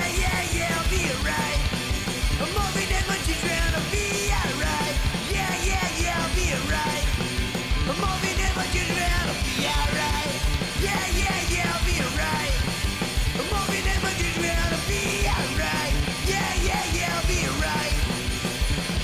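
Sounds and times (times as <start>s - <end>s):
punk rock song: 0.0s - 19.0s.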